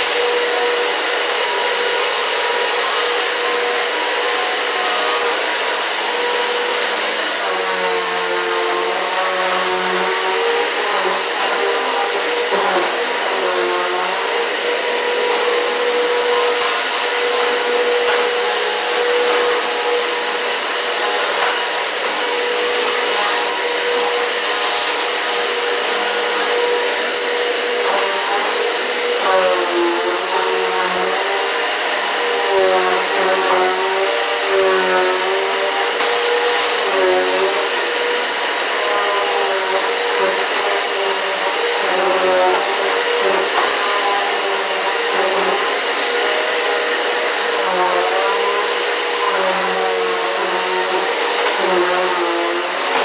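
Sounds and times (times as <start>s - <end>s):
vacuum cleaner motor whine: 0.0s - 53.0s.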